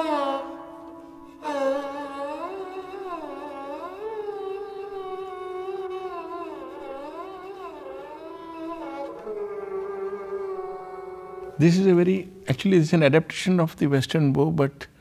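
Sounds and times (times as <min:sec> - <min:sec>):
bowed string gliding melody: 0:00.0 - 0:12.5.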